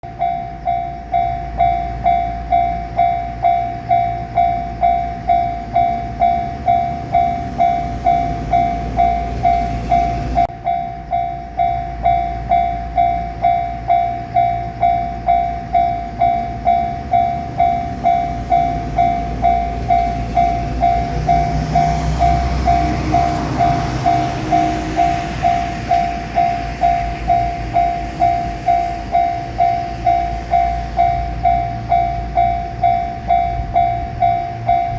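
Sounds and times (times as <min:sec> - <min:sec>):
level crossing alarm bell: 0:00.0 - 0:34.9
electric train rushing past: 0:00.1 - 0:34.9.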